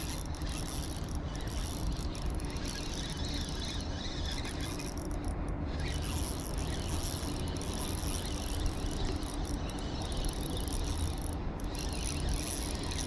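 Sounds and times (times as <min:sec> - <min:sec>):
fishing reel buzzing: 0:00.0 - 0:13.0.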